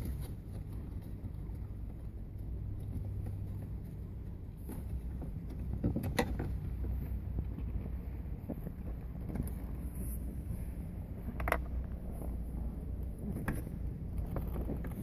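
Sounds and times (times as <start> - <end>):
low rumble on microphone: 0.0 - 15.0.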